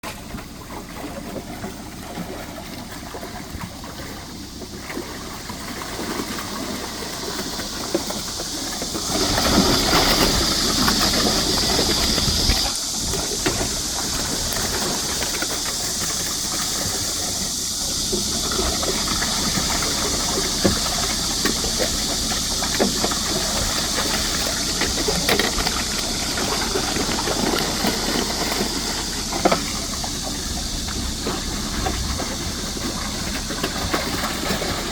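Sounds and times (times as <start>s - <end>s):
water rushing and hissing: 0.1s - 34.9s.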